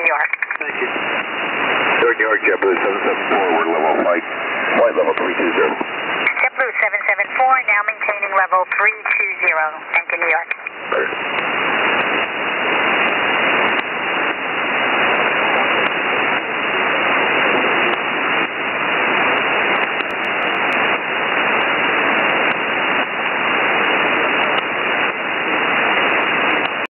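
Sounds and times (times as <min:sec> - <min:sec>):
shortwave radio static: 0:00.0 - 0:26.9.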